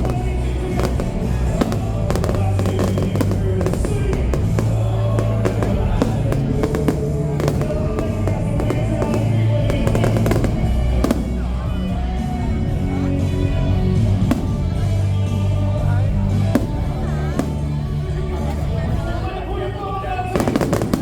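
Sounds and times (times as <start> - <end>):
loud music with bass line: 0.0 - 19.0
fireworks cracking and banging: 0.0 - 21.0.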